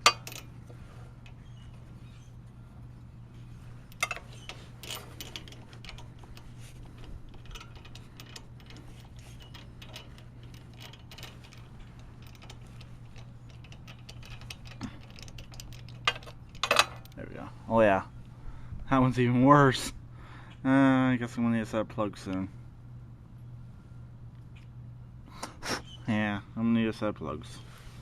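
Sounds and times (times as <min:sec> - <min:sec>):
low hum: 0:00.0 - 0:25.4.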